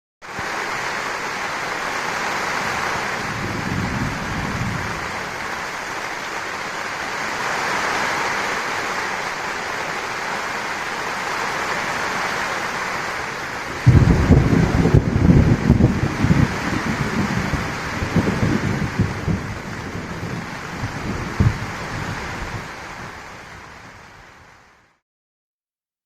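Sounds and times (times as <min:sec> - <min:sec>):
heavy rain falling: 0:00.2 - 0:25.0.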